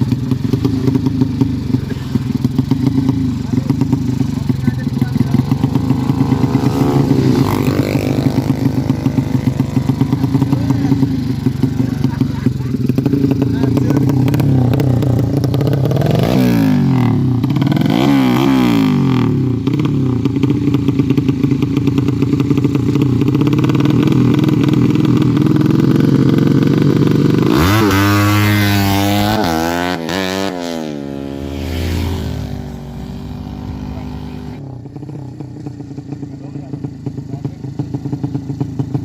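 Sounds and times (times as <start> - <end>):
engine idling: 0.0 - 18.1, 18.9 - 27.5, 31.1 - 39.0
engine throttle blips: 0.0 - 35.6
motorcycle engine revving: 0.0 - 39.0.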